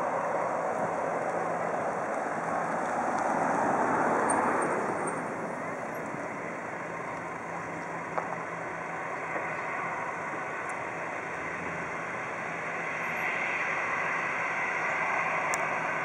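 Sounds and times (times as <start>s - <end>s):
jet engines taxiing hum: 0.0s - 16.0s.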